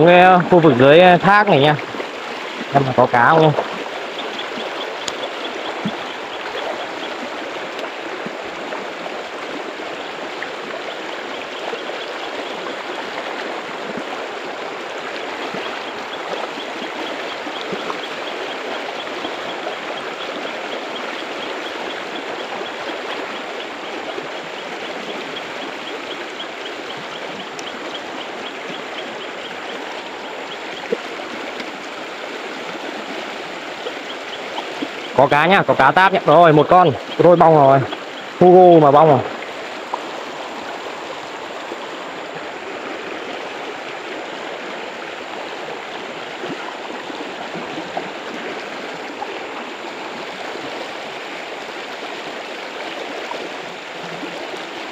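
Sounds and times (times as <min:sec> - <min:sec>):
stream rushing over stones: 0:00.0 - 0:54.9.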